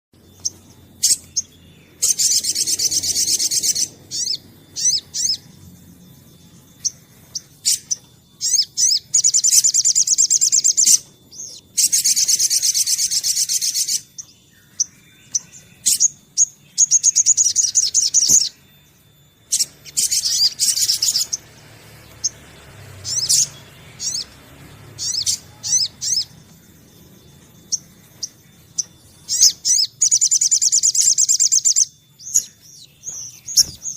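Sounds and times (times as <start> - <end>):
bird twittering trills: 0.2 - 33.9.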